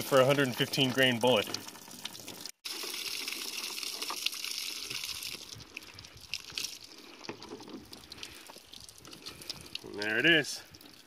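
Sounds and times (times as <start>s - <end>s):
water gushing from plastic jug: 0.0s - 11.0s.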